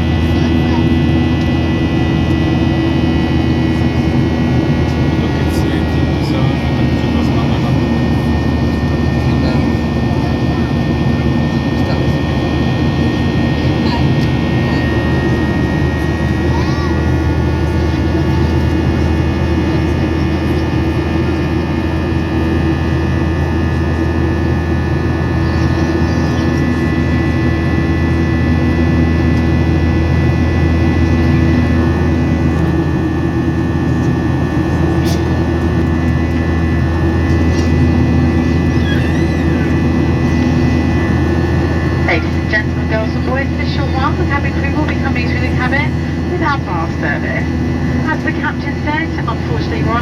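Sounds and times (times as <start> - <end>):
airplane cabin jet engine roar: 0.0 - 50.0.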